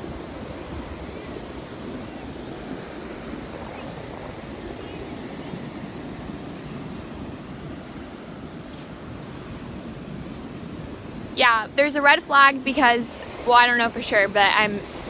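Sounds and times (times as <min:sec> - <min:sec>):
surf breaking on beach: 0:00.0 - 0:15.0
wind on microphone: 0:00.0 - 0:15.0.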